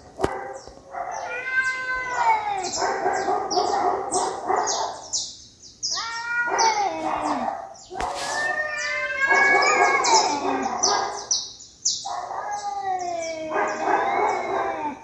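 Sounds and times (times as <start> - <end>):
cats yowling: 0.8 - 5.1, 5.9 - 11.4, 12.0 - 15.0.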